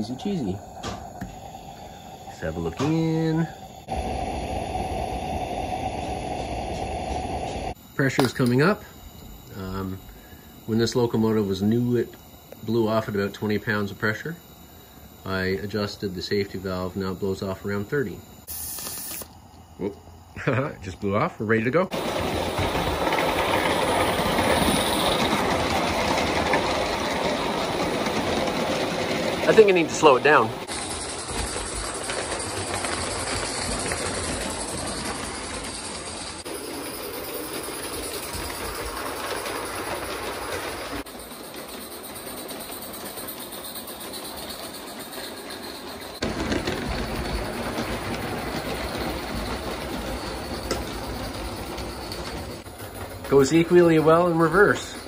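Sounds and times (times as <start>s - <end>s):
track clicks: 0.0s - 4.0s, 4.9s - 18.2s, 21.9s - 55.0s
model train wheels rolling on rail: 0.0s - 18.2s, 20.8s - 55.0s.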